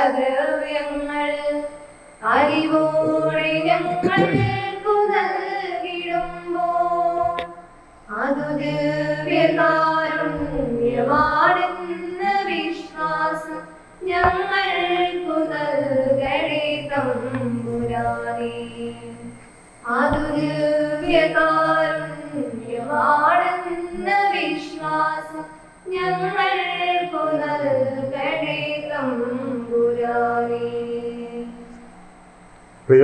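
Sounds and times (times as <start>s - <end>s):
women's choir singing a hymn: 0.0s - 31.8s.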